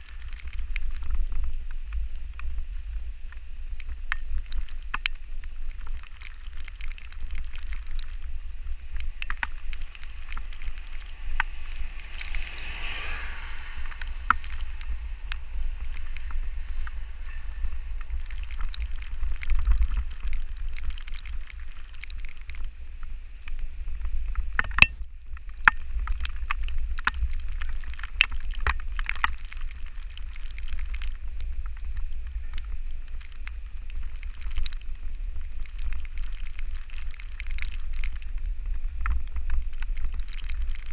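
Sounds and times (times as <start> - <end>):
sharp ticks and clicks: 0.0 - 40.9
wind buffeting microphone: 0.0 - 40.9.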